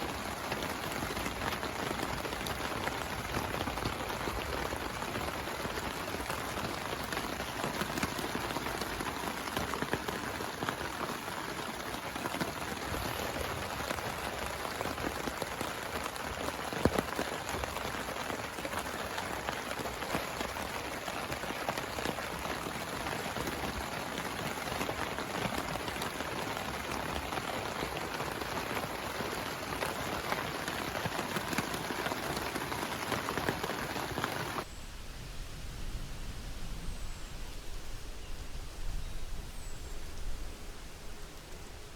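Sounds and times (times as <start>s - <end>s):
heavy rain patter: 0.0s - 41.9s.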